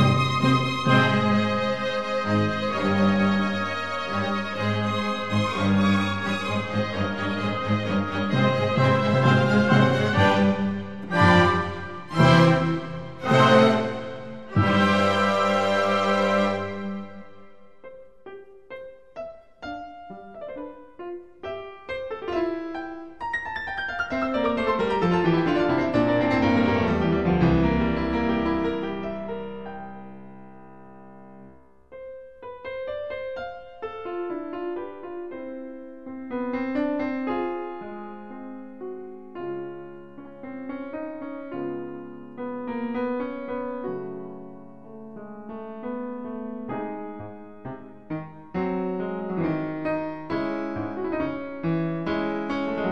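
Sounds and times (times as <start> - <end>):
solo piano music: 0.0 - 52.9.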